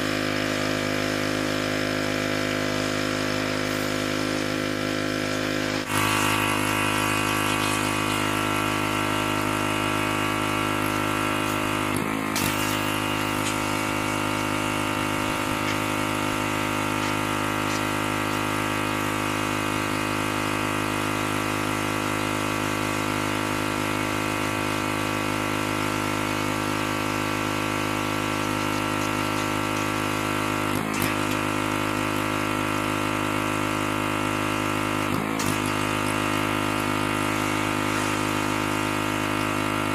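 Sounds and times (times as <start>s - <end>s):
pressure washer running: 0.0s - 39.9s.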